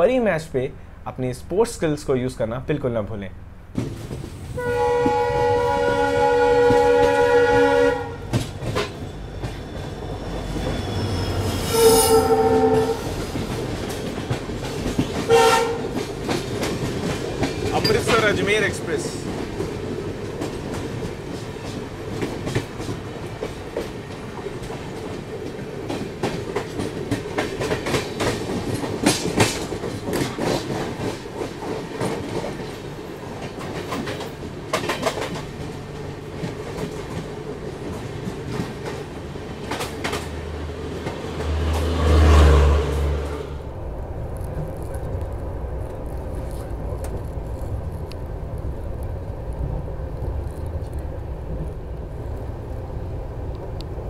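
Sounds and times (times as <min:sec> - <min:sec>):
loud low rush of passing train: 0:00.0 - 0:54.0
train wheels rumbling on rails: 0:03.6 - 0:54.0
clickety-clack of rail joints: 0:03.7 - 0:43.6, 0:44.2 - 0:52.9.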